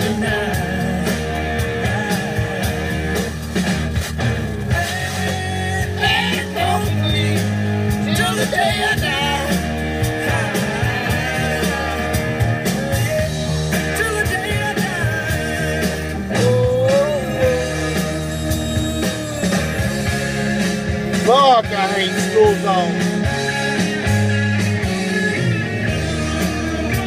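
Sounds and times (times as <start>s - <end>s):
rock song with singing: 0.0s - 27.0s.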